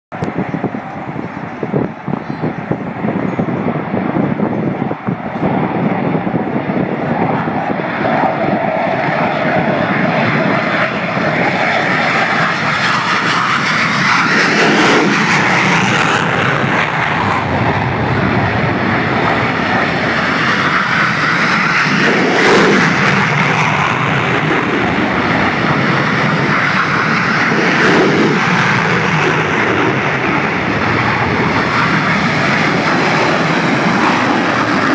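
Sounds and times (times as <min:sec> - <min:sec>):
jets taking off: 0:00.1 - 0:34.9.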